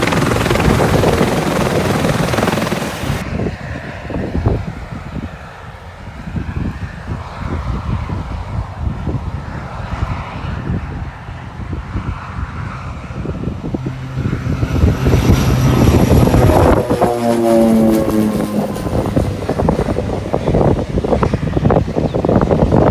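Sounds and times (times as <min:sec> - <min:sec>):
propeller aircraft engine drone: 0:00.0 - 0:22.9
wind buffeting microphone: 0:00.0 - 0:22.9.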